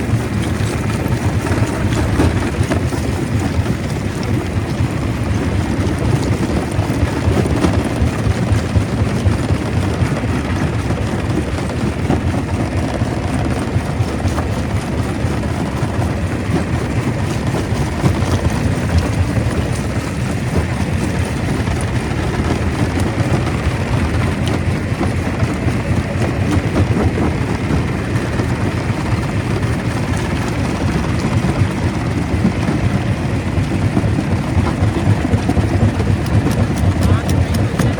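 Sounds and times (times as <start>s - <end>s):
fine mechanical clatter: 0.0s - 37.9s
stone crusher rumbling: 0.0s - 37.9s.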